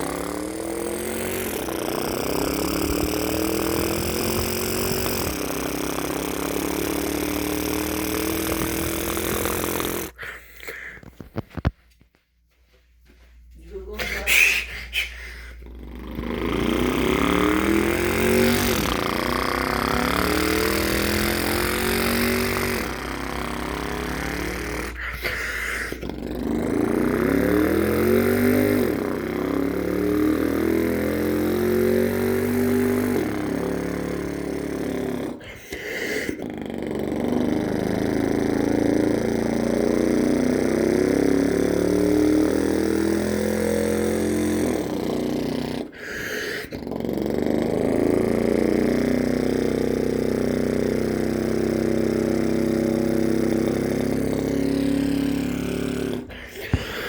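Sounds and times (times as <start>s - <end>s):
person imitating engine revs: 0.0s - 11.6s, 13.6s - 57.0s.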